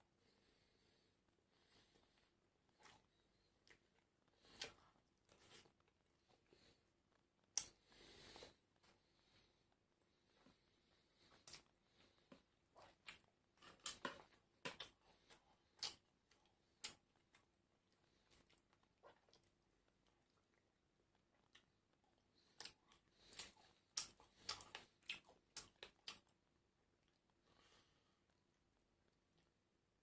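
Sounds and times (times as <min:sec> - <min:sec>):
crunchy food being chewed: 0:01.9 - 0:09.0, 0:10.3 - 0:29.6.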